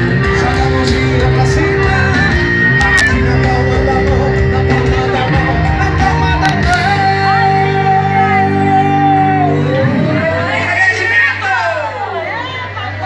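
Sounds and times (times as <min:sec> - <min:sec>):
person singing: 0:00.0 - 0:10.8
live band music: 0:00.0 - 0:13.0.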